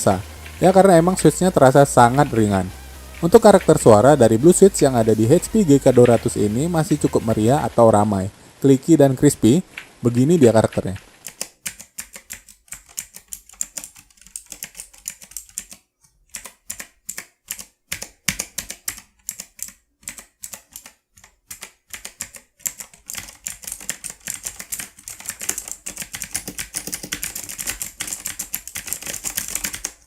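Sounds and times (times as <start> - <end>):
clicky mechanical keyboard typing: 0.0 - 7.6, 9.7 - 30.0.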